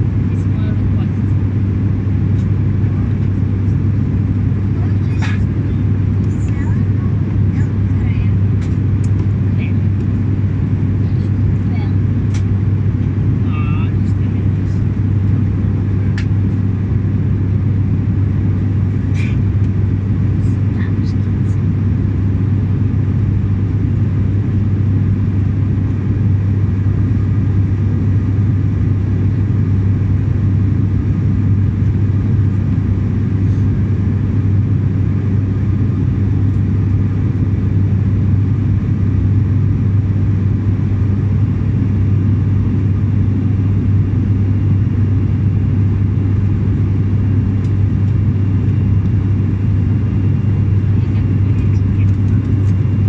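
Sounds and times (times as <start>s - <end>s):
propeller hum: 0.0s - 53.0s.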